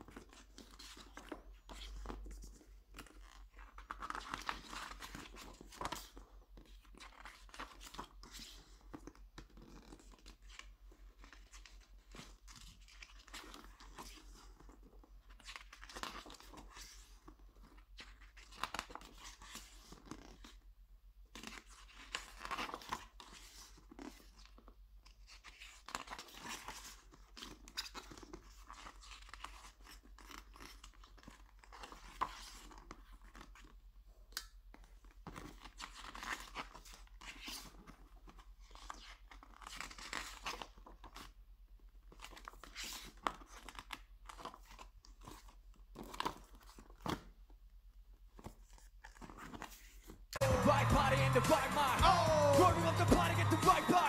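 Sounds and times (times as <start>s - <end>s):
book pages turning: 0.0s - 20.7s, 21.3s - 33.8s, 34.4s - 41.4s, 42.0s - 47.5s, 48.2s - 54.0s.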